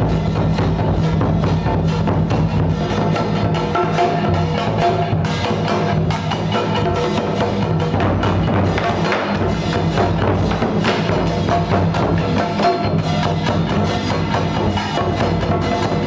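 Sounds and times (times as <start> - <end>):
drum strikes: 0.0 - 16.0
wood-block strikes: 0.0 - 16.0.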